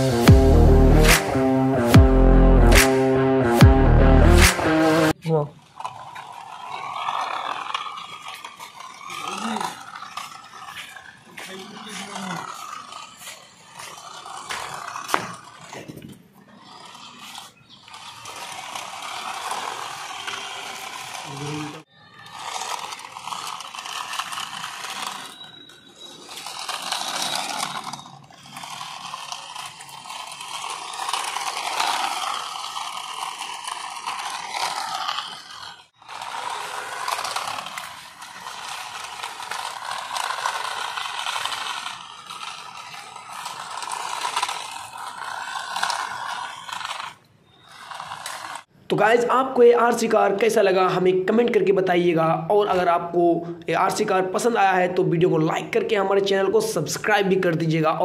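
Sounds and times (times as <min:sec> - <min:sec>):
toy car motor whirring and grinding: 0:04.2 - 0:48.8, 0:53.8 - 0:58.0.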